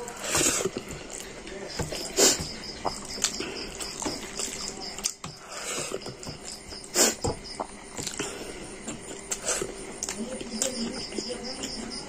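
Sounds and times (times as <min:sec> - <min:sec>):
person chewing with wet smacks: 0:00.0 - 0:11.9.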